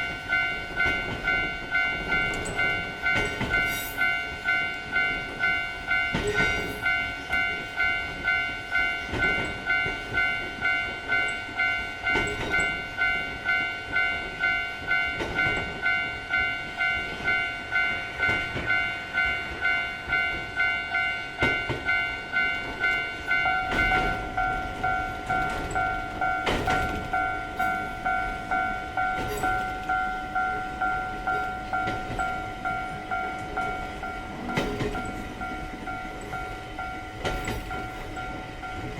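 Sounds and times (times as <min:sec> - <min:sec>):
railroad crossing warning bell: 0:00.0 - 0:38.9.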